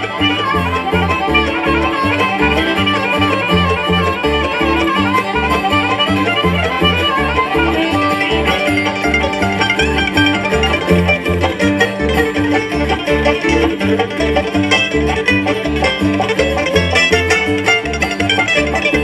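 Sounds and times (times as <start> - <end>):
bass notes: 0.0 - 19.0
fast banjo picking: 0.0 - 19.0
guitar: 0.0 - 19.0.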